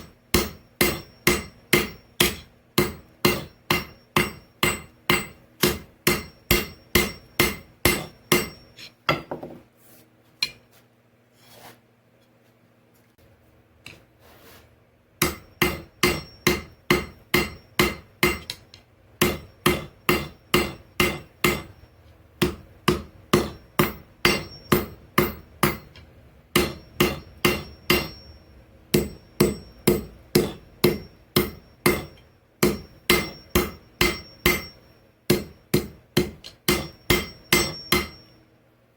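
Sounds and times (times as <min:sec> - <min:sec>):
hammer striking steel: 0:00.0 - 0:09.5, 0:15.2 - 0:38.4.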